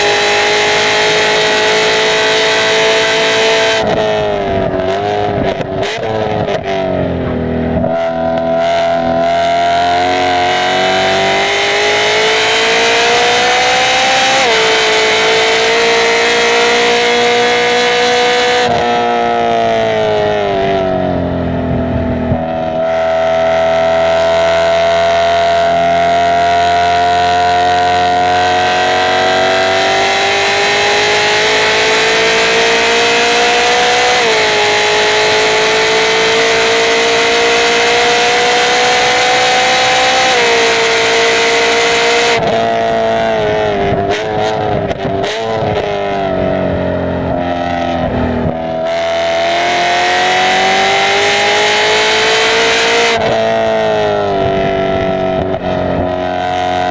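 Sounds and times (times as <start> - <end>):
car engine revving through gears: 0.0 - 56.9.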